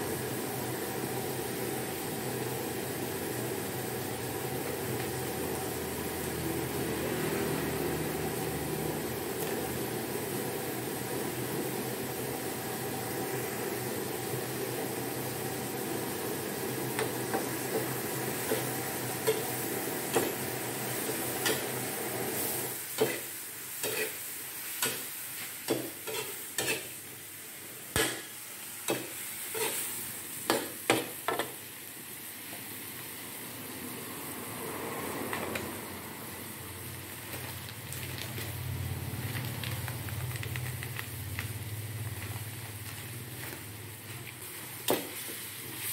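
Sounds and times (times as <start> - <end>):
food sizzling in a wok: 0.0 - 45.9.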